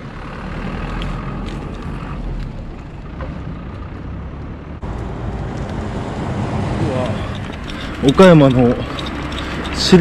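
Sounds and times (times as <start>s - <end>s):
road and traffic noise: 0.0s - 10.0s.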